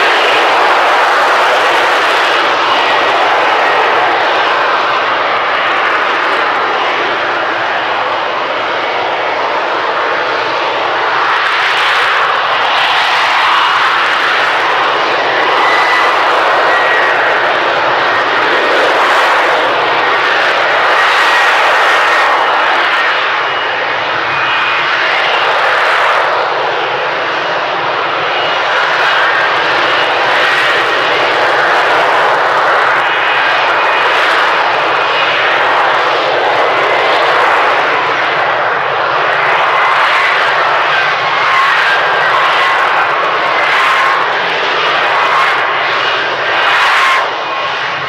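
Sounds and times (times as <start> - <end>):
jet engine rushing noise: 0.0 - 48.0.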